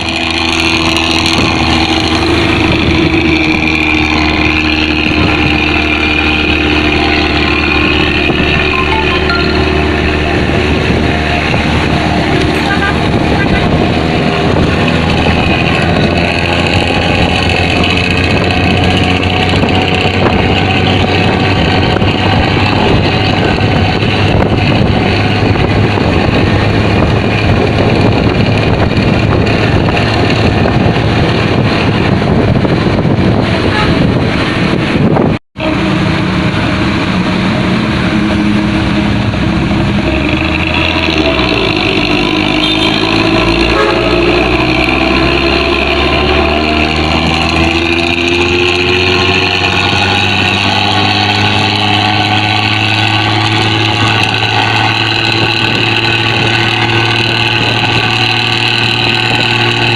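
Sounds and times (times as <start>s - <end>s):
bus engine drone: 0.0s - 59.9s
bus engine with rough gurgling exhaust: 0.0s - 59.9s.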